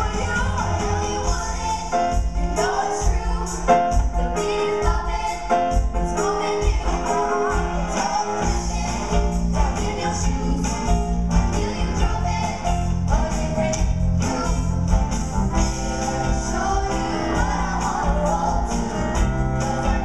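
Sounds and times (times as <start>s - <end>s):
female choir singing pop song: 0.0s - 20.0s.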